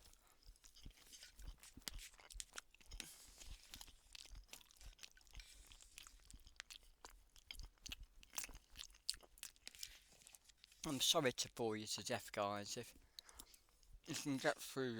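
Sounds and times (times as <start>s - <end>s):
person chewing food: 0.0s - 11.0s, 12.8s - 14.8s.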